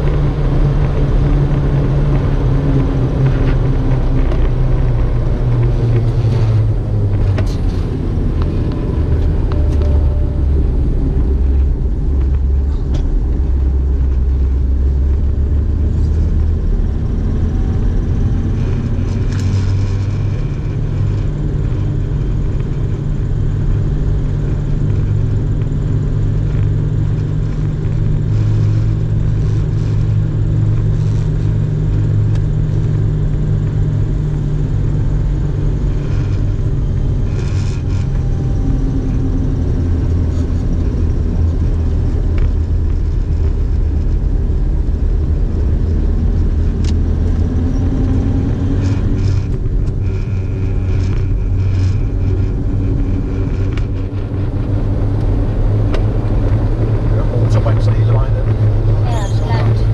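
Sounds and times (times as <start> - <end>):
car driving low rumble: 0.0 - 59.9.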